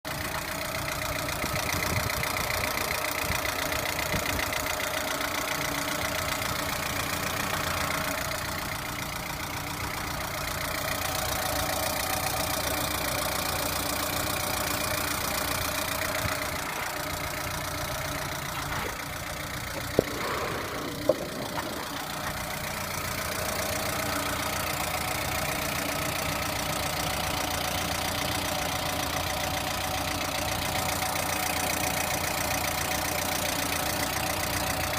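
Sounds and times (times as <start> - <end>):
car engine idling with knock: 0.1 - 34.9.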